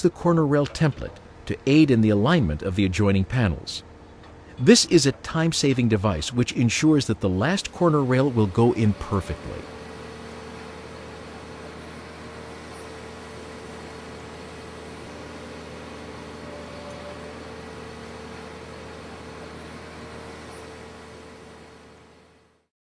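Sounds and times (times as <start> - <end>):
heavy equipment engine drone: 3.5 - 22.7.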